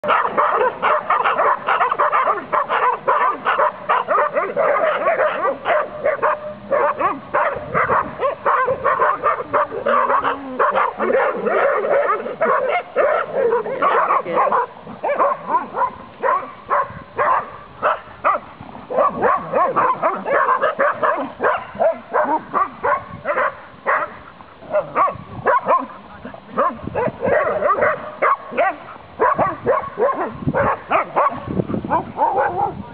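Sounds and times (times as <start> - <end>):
dog barking rapidly: 0.0 - 26.0, 26.6 - 32.9.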